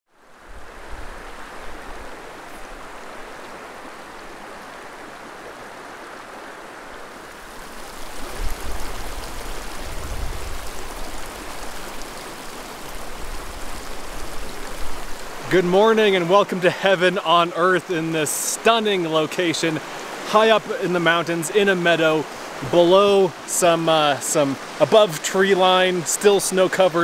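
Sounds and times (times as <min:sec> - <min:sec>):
creek running over rocks: 0:00.1 - 0:27.0.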